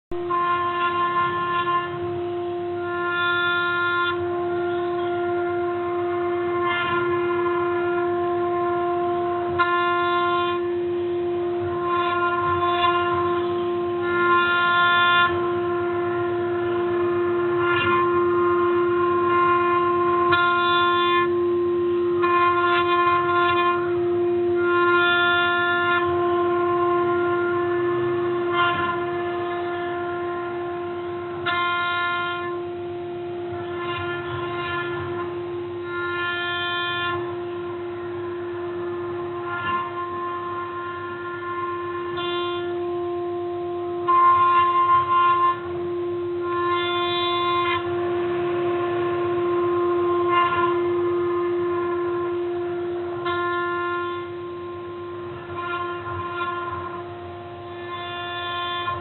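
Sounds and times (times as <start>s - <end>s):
cnc spindle whine: 0.1s - 59.0s
motor tones switching: 0.1s - 59.0s.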